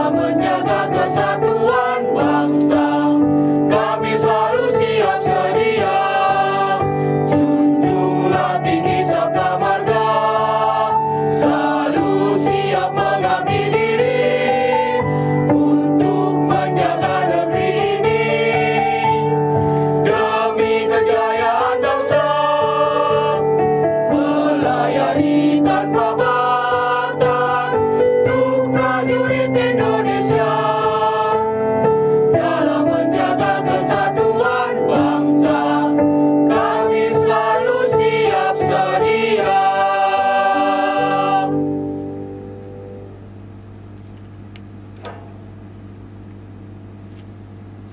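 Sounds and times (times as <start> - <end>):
mixed choir singing: 0.0 - 41.8
electronic keyboard: 0.0 - 43.6.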